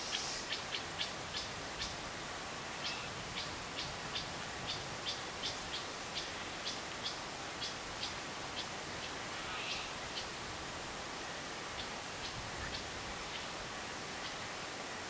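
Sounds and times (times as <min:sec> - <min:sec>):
breeze hiss: 0:00.0 - 0:15.0.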